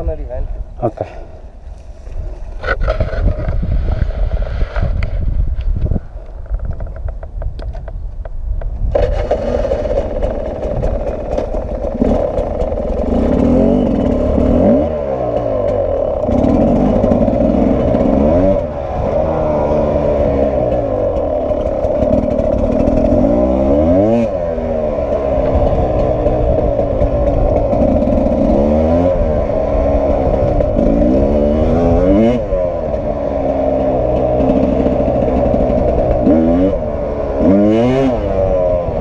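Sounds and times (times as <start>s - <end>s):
motorcycle engine revving: 2.4s - 5.9s, 8.9s - 39.0s.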